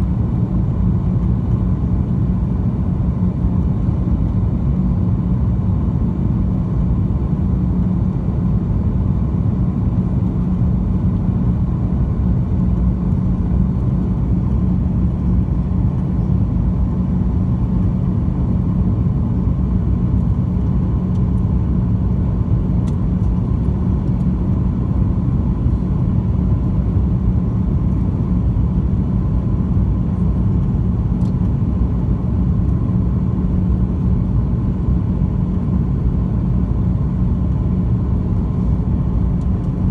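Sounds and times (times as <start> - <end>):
airplane cabin rumble: 0.0 - 39.9
constant low hum: 0.0 - 39.9.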